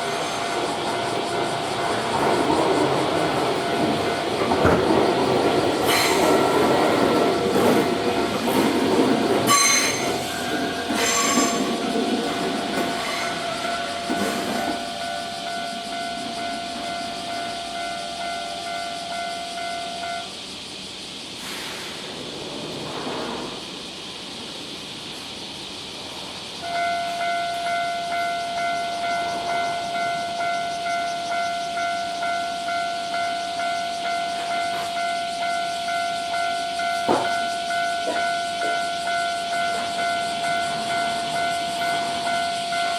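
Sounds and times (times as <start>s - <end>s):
passing train rumble: 0.0s - 42.9s.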